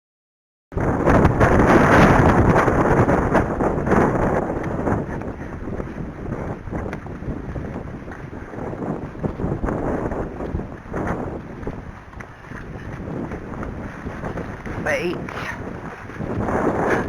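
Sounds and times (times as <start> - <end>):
wind buffeting microphone: 0.7 - 17.0.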